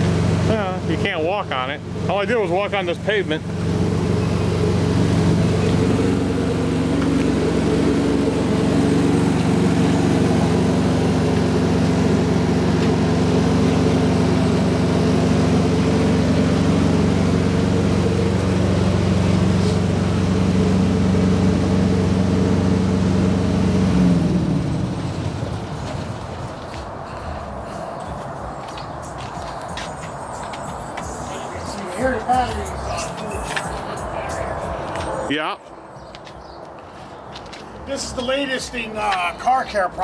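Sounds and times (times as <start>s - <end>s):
diesel truck engine idling: 0.0s - 35.3s.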